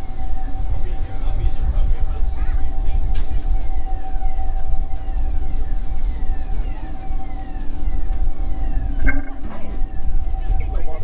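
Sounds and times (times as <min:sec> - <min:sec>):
boat engine humming: 0:00.0 - 0:11.0
faint descending whistle: 0:00.0 - 0:11.0.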